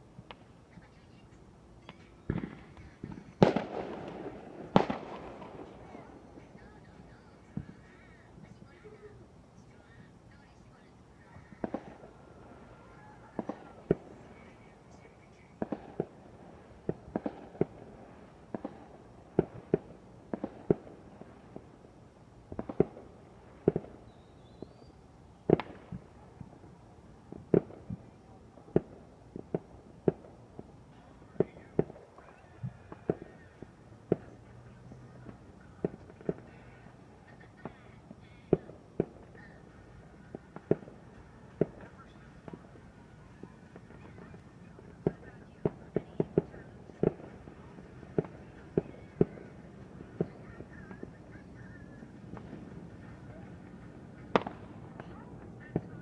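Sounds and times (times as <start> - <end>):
fireworks bangs: 1.8 - 56.0.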